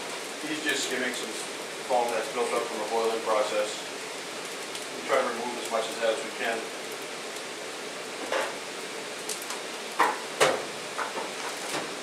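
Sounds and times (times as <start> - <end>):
sap boiling with steady hiss: 0.0 - 12.0.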